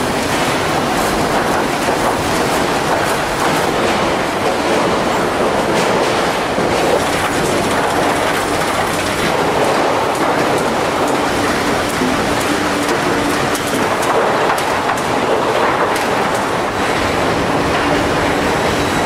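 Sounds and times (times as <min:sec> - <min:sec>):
conveyor mechanical rattle: 0:00.0 - 0:19.0.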